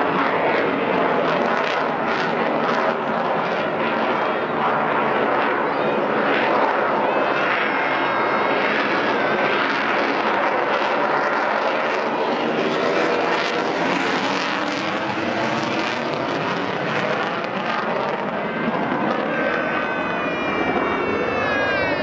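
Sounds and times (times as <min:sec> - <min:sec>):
jet engine rush: 0:00.0 - 0:22.0.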